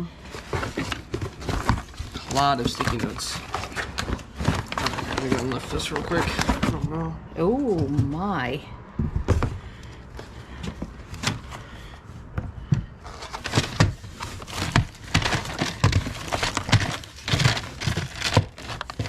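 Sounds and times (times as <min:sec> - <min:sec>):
hands rummaging through office supplies: 0:00.0 - 0:08.4, 0:09.2 - 0:19.0.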